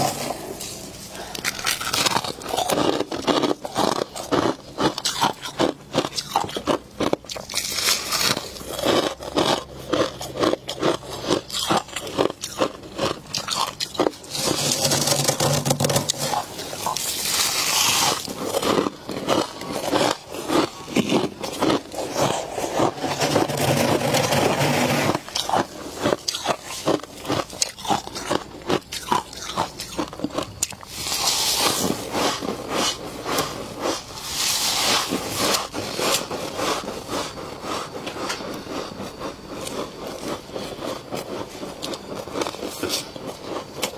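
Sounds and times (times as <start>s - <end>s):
freezer frost crunching and scraping: 0.0s - 43.9s.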